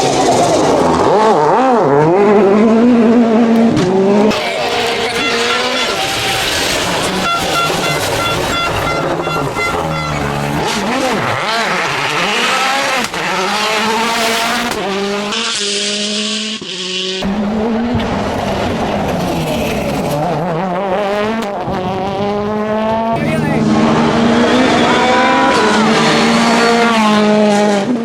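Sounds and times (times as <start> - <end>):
rally car engines at full throttle: 0.0 - 28.0.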